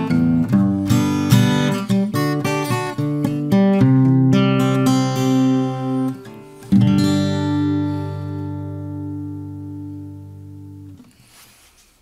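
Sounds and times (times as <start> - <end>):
acoustic guitar chords strummed: 0.0 - 11.2.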